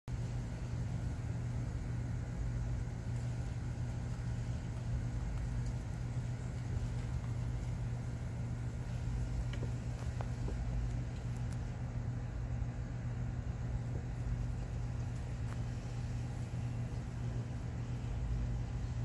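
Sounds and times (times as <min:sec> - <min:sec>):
low mechanical hum: 0:00.1 - 0:19.0.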